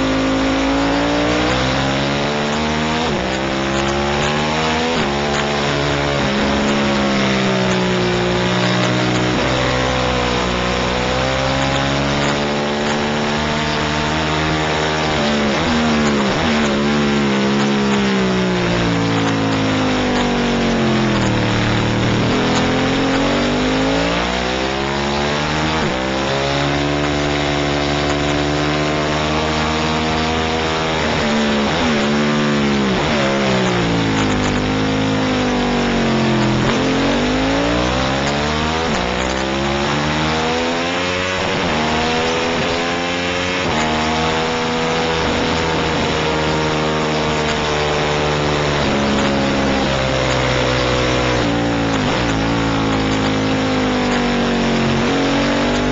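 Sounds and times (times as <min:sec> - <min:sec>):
racing motorcycle engine: 0:00.0 - 0:55.9.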